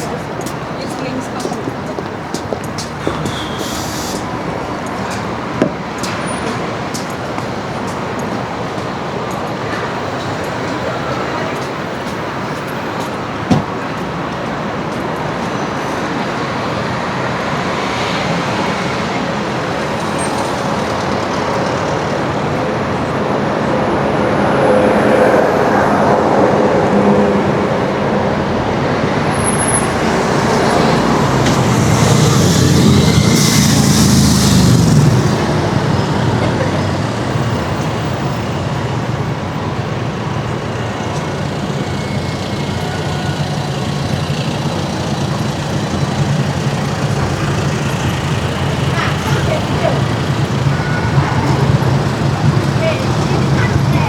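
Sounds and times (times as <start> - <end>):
city traffic road noise: 0.0 - 54.0
heavy vehicle passing: 0.0 - 54.0.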